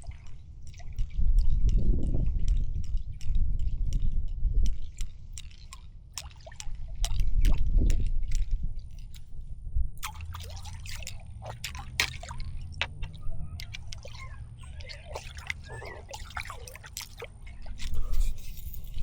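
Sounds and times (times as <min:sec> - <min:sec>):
water dripping and trickling: 0:00.0 - 0:19.0.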